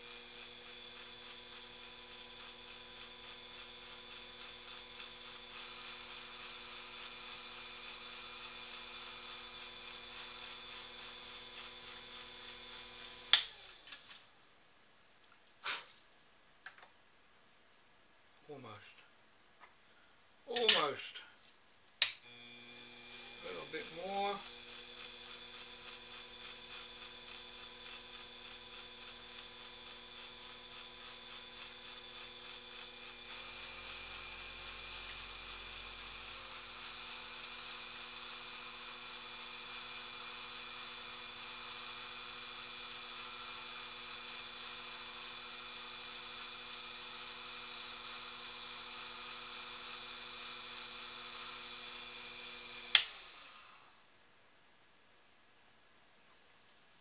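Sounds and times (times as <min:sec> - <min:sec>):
lathe motor hum with high whine: 0:00.0 - 0:14.2, 0:22.2 - 0:54.1.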